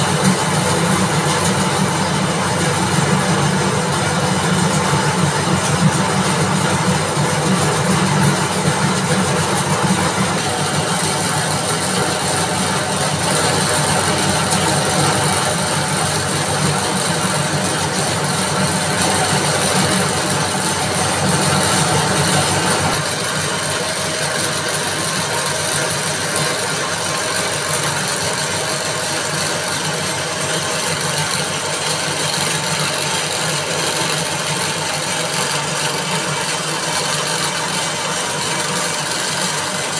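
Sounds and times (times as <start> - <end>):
spinning machine mechanical drone: 0.0 - 39.9.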